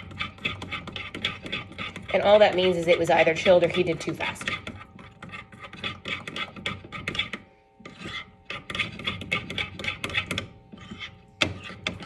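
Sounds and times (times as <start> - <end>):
metal spoon scraping glass bowl: 0.0 - 12.0.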